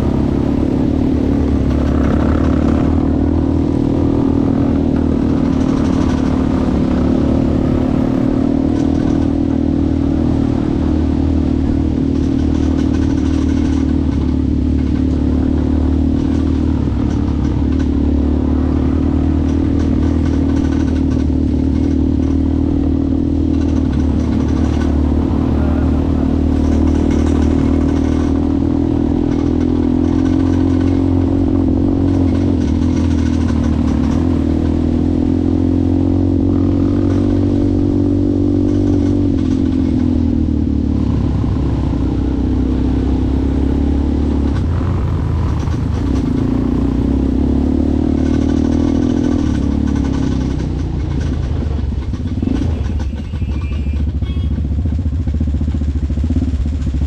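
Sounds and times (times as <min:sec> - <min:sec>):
low drone: 0:00.0 - 0:53.0
atv engine running: 0:00.0 - 0:57.0.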